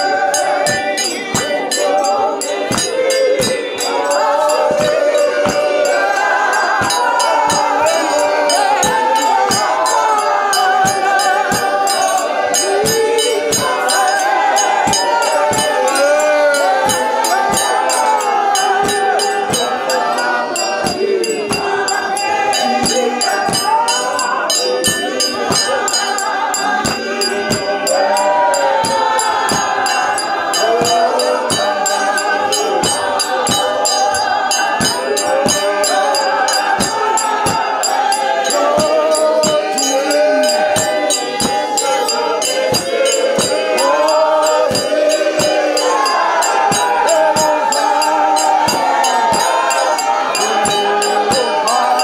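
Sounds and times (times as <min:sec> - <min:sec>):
congregation singing a hymn: 0:00.0 - 0:52.0
rattling percussion beat: 0:00.0 - 0:52.0.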